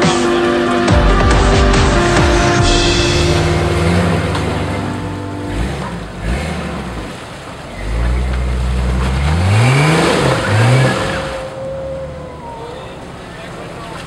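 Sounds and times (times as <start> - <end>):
engine revving under load: 2.6 - 14.0.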